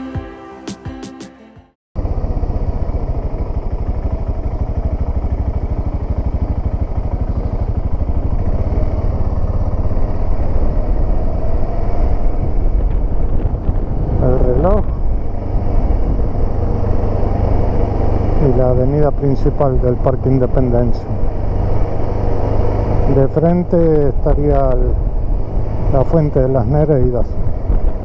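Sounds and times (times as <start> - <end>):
motorcycle engine running: 2.0 - 28.0.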